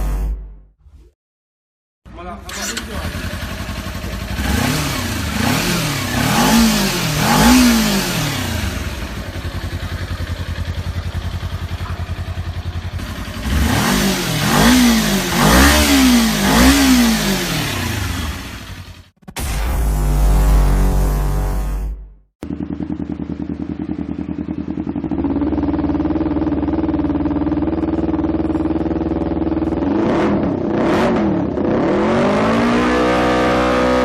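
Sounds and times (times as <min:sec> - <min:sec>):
motorcycle engine revving and idling: 0:02.3 - 0:34.0.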